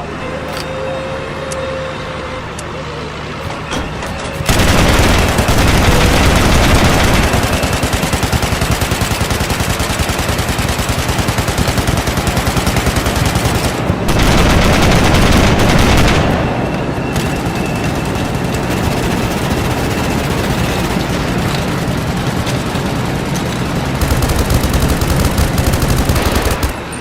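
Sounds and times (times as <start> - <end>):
machine gun fire: 4.5 - 27.0.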